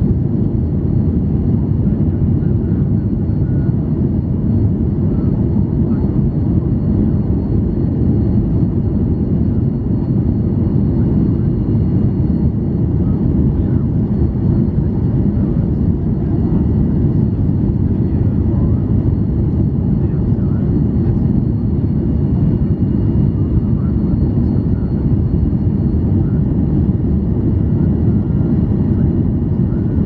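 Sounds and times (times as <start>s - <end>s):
airplane cabin engine rumble: 0.0s - 30.0s.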